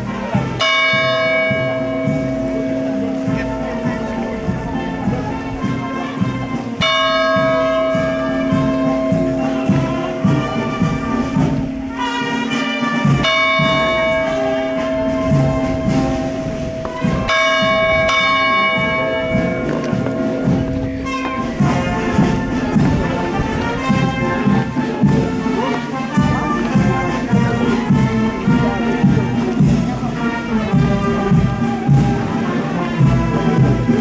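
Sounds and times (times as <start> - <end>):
church bells ringing: 0.0 - 34.0.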